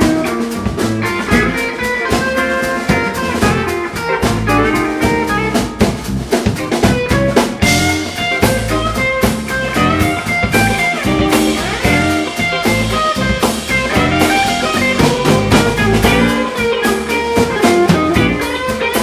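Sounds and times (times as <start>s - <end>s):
bass guitar: 0.0s - 19.0s
drum kit: 0.0s - 19.0s
lead guitar notes: 0.0s - 19.0s.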